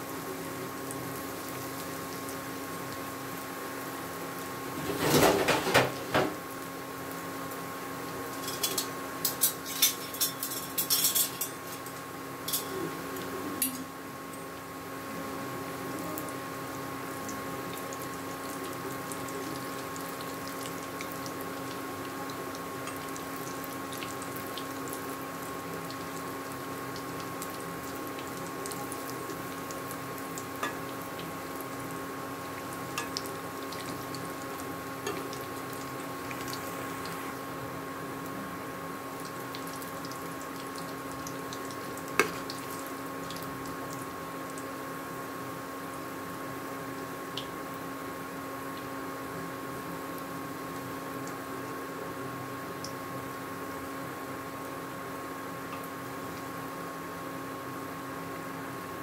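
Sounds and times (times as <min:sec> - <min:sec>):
cooktop electrical hum: 0:00.0 - 0:59.0
oil sizzling deep-frying: 0:00.0 - 0:59.0.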